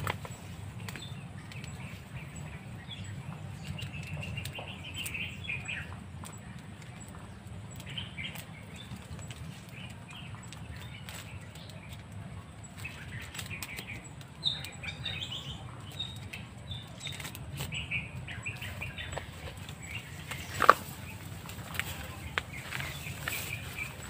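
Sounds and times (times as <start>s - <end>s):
hands rustling twigs and leaves: 0.0s - 24.0s
small birds chirping: 0.0s - 24.0s.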